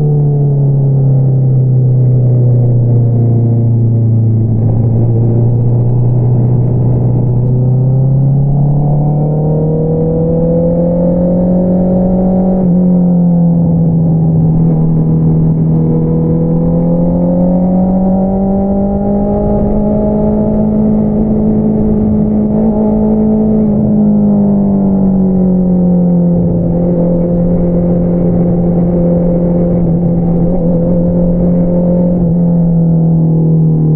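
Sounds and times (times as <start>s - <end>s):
motorcycle engine revving: 2.6s - 33.9s.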